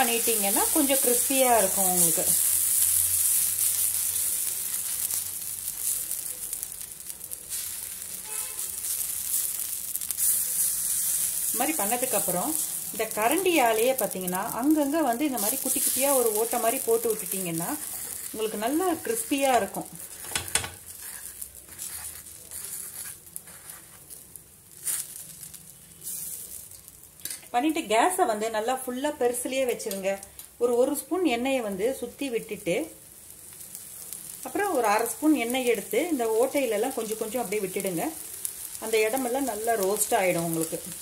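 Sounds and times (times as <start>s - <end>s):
batter sizzling on a hot pan: 0.0s - 41.0s.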